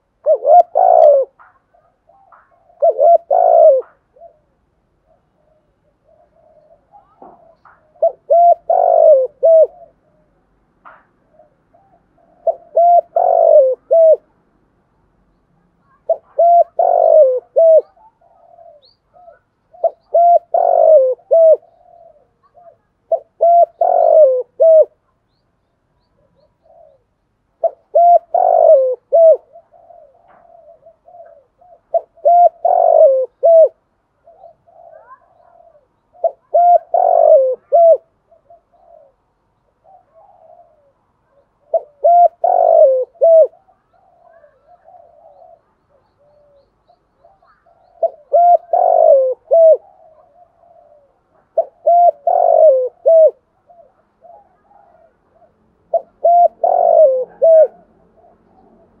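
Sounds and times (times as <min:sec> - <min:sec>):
dove cooing: 0:00.0 - 0:14.3, 0:15.8 - 0:25.2, 0:26.1 - 0:59.0.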